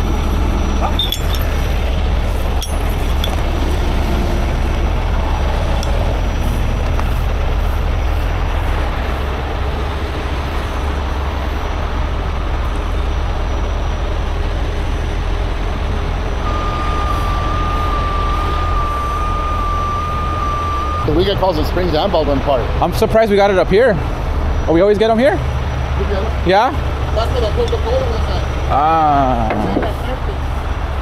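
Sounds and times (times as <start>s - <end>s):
diesel engines rumbling: 0.0s - 31.0s
roadside noise: 0.0s - 31.0s
steady high-pitched whine: 0.0s - 31.0s.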